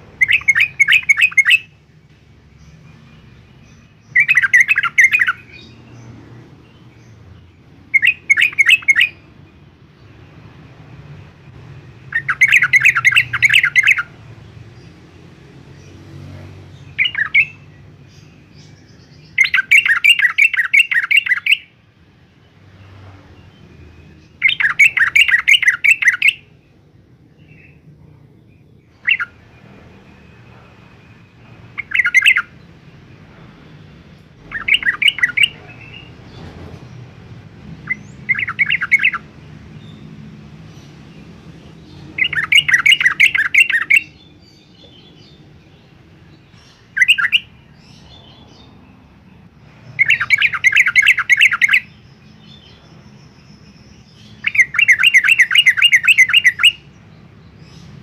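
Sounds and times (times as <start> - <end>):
bird chattering song: 0.0 - 10.4, 11.0 - 16.0, 16.6 - 58.0.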